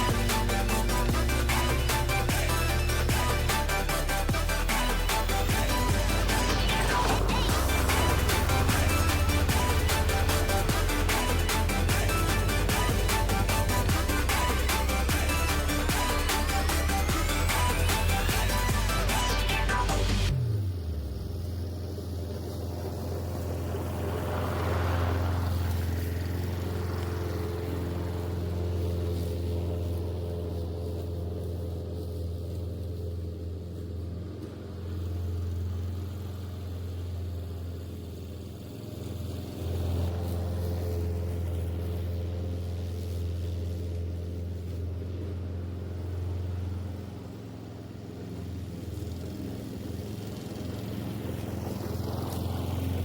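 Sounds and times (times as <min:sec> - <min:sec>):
small gasoline engine running: 0:00.0 - 0:53.0.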